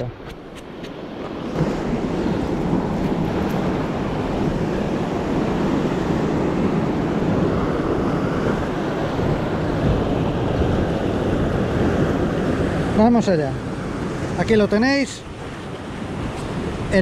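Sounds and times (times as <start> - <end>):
surf washing against rocks: 0.0 - 17.0
wind on microphone: 0.0 - 17.0.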